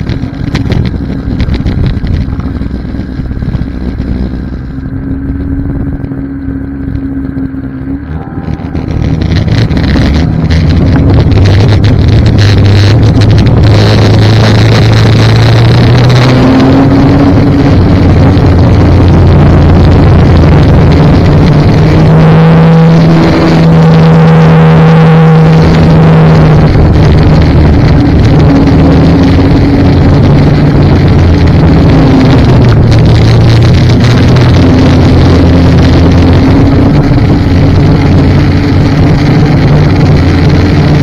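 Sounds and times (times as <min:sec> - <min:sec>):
snowmobile engine running: 0:00.0 - 0:41.0.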